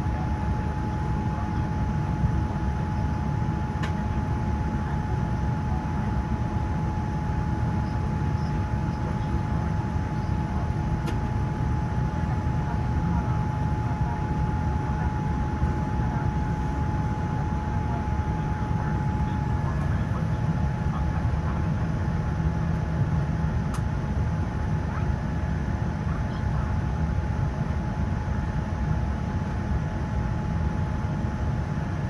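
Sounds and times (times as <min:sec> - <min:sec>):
low cabin rumble: 0:00.0 - 0:32.0.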